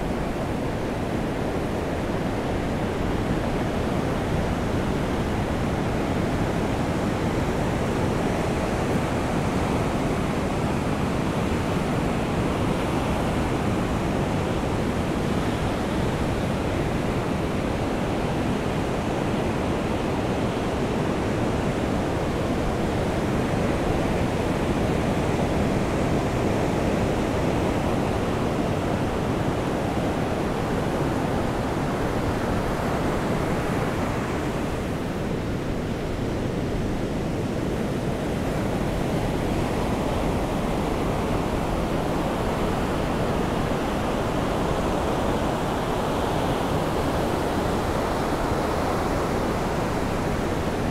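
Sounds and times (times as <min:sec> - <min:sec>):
ocean surf: 0:00.0 - 0:50.9.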